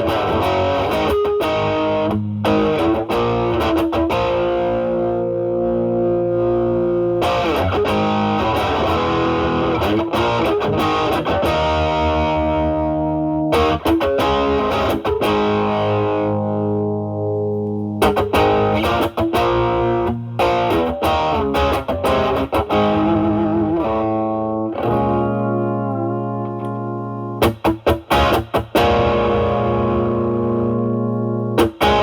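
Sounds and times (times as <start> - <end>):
overdriven electric guitar: 0.0 - 32.0.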